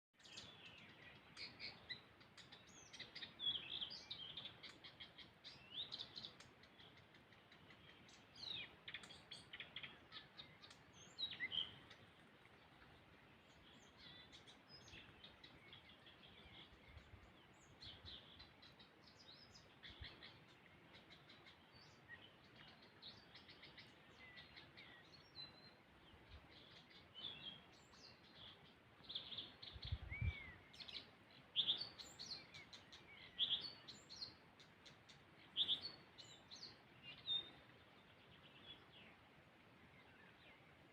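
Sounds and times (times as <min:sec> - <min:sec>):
small birds chirping and trilling: 0:00.2 - 0:40.9.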